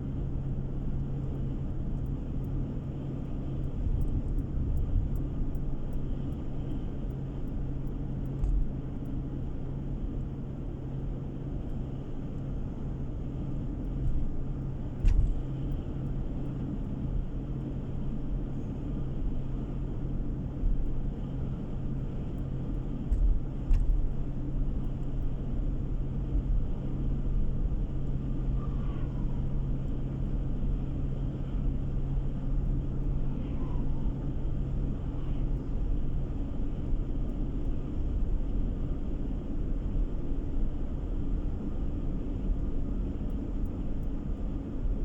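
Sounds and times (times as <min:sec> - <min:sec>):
car road and engine noise: 0:00.0 - 0:45.0.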